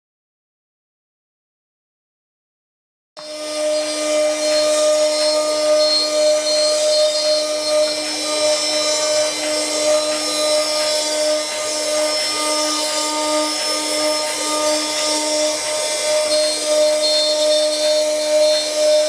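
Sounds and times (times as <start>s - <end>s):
machine motor whine: 3.2s - 19.0s
spindle cutting wood hiss: 3.2s - 19.0s.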